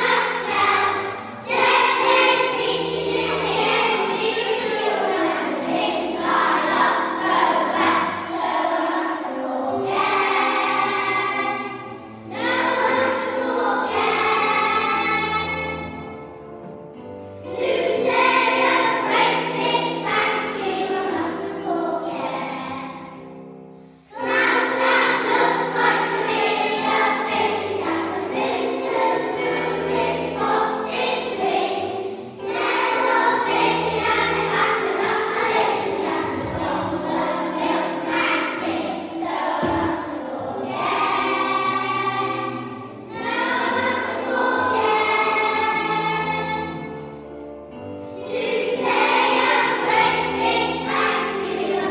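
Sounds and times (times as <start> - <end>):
choir singing: 0.0 - 16.4, 17.4 - 47.4, 48.0 - 51.9.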